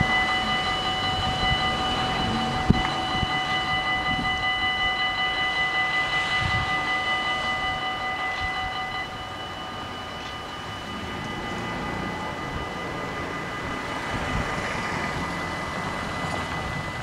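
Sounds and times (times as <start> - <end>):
level crossing bells ringing: 0.0 - 17.0.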